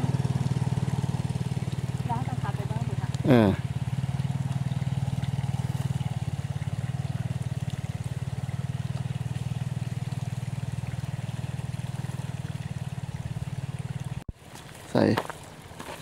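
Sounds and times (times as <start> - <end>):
small engine running: 0.0 - 14.3.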